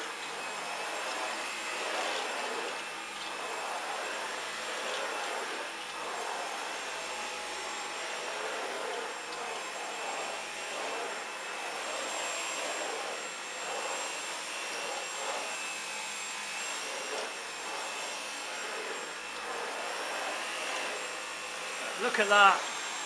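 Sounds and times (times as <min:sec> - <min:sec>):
stick vacuum running: 0:00.0 - 0:23.0.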